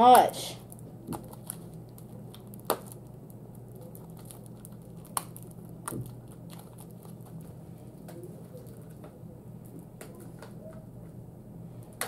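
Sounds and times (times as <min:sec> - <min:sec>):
steady low hum: 0:00.0 - 0:12.0
fingers crinkling plastic wrap: 0:00.1 - 0:10.8.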